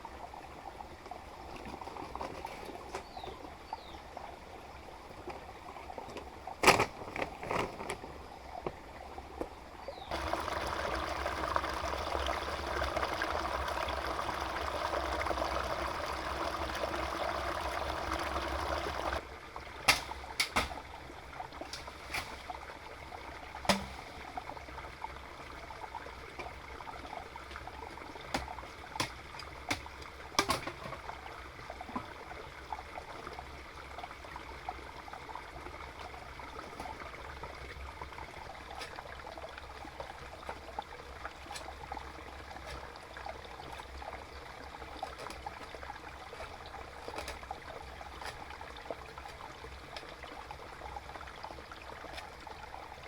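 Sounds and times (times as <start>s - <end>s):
water trickling: 9.9s - 53.0s.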